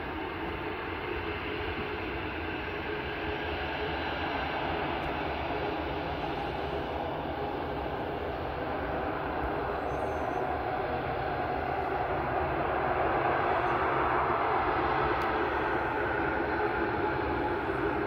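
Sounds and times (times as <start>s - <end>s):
jet airliner engines running: 0.0s - 18.0s.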